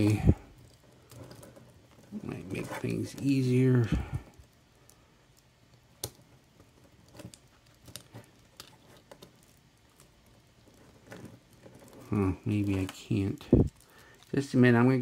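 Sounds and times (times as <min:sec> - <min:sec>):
plastic film rustling: 0:00.0 - 0:15.0.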